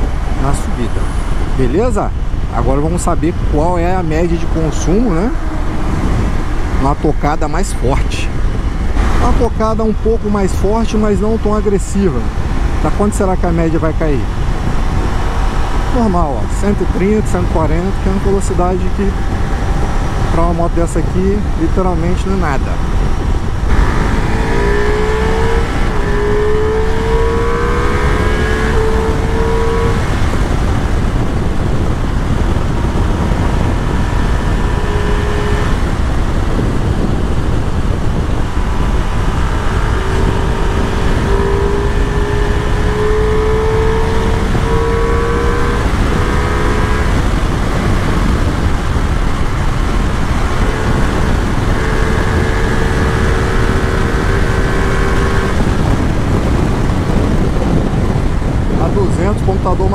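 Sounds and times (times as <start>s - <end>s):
motorcycle engine at speed: 0.0s - 59.9s
wind rush on microphone: 0.0s - 59.9s.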